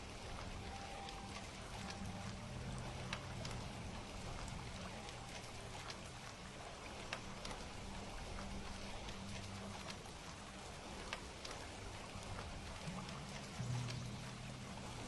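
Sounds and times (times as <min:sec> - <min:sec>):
faint low hum: 0:00.0 - 0:15.0
steady rain: 0:00.0 - 0:15.0.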